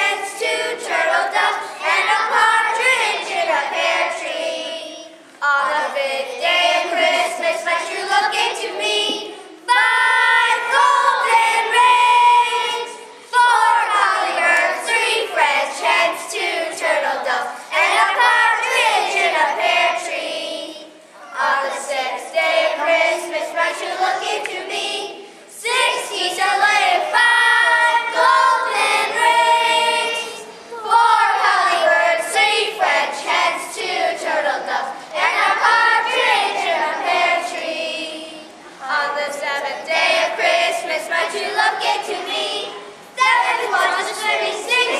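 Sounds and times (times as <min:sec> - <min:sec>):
children singing together: 0:00.0 - 0:44.9.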